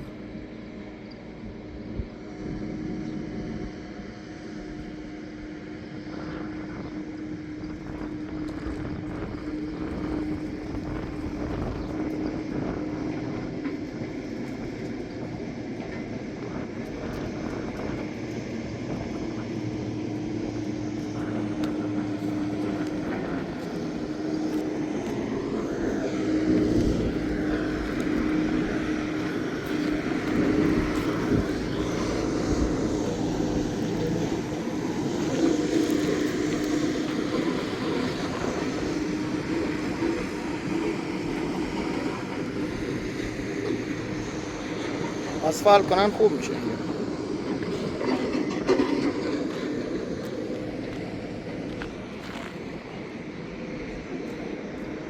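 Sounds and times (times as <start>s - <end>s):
rumbling road noise: 0.0s - 55.0s
vehicle engine drone: 0.0s - 55.0s.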